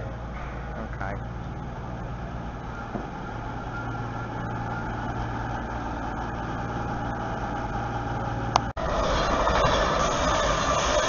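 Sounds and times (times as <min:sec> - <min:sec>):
train diesel engines humming: 0:00.0 - 0:11.0.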